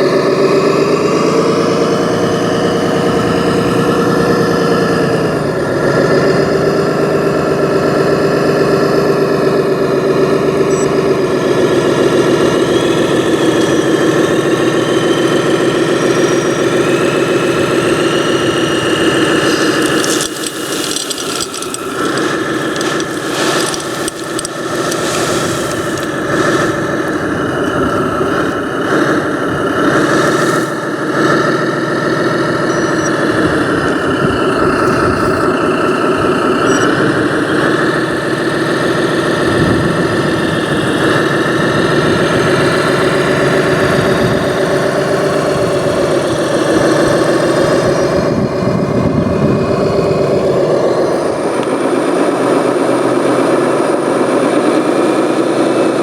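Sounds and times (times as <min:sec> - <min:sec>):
model vehicle engine running: 0:00.0 - 0:56.0.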